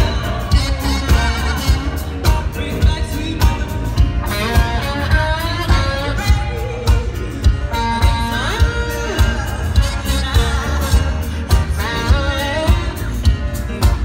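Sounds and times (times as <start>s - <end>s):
drums steady beat: 0.0s - 14.0s
keyboards and guitars: 0.0s - 14.0s.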